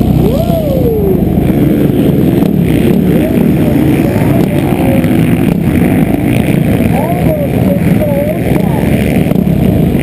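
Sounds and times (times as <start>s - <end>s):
heavy wind rumble on microphone: 0.0s - 10.0s
motocross bike engine revving: 0.0s - 10.0s.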